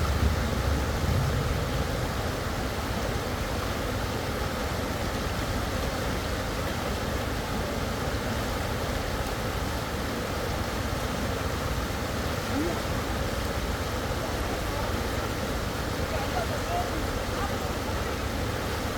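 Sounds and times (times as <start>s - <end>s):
creek water flowing over rocks: 0.0s - 18.9s.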